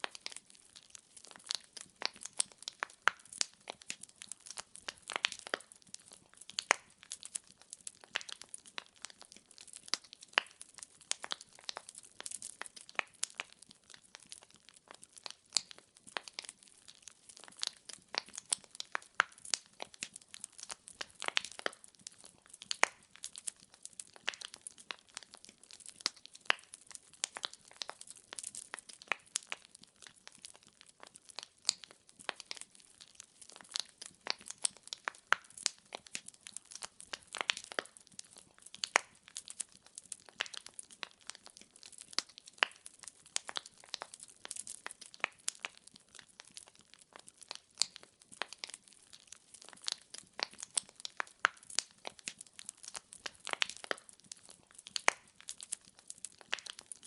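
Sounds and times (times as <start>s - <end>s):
firewood crackling: 0.0s - 57.0s.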